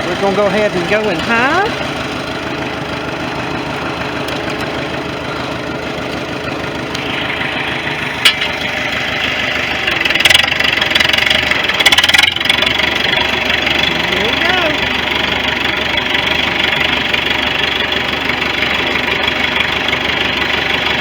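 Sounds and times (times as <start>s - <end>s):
dense rattling clatter: 0.0s - 21.0s
tractor engine running: 0.0s - 21.0s.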